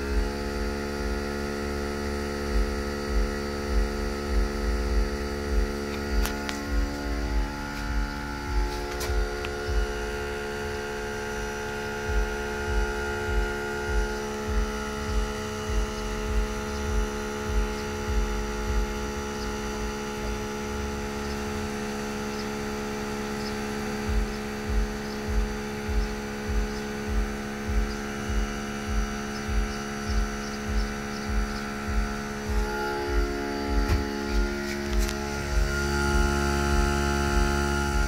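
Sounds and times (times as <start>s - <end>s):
air compressor humming: 0.0s - 38.0s
low repeating pulse: 0.0s - 38.0s.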